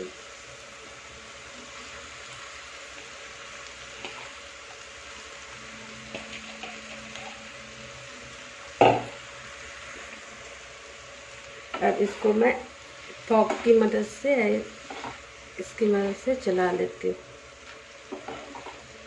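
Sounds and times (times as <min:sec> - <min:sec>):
noodles sizzling in a frying pan: 0:00.0 - 0:19.0.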